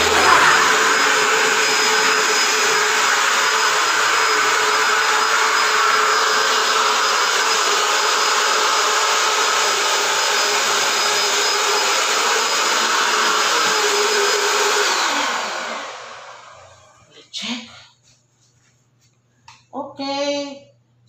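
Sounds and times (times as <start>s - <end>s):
vacuum cleaner running: 0.0s - 17.1s.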